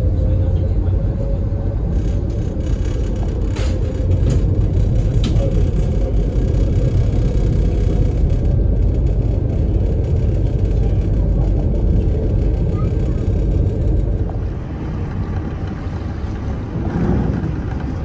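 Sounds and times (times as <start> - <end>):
ferry diesel engines droning: 0.0 - 18.0.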